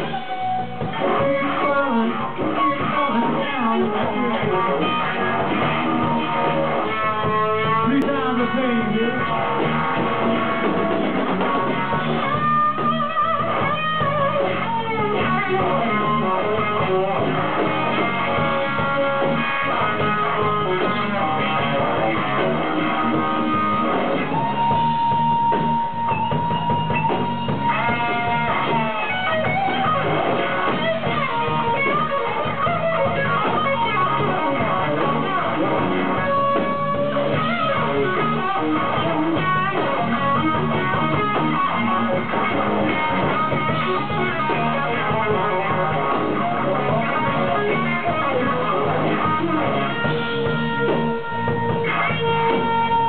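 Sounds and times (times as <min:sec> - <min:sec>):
blues band playing: 0:00.0 - 0:53.0
electric guitar solo: 0:00.0 - 0:53.0.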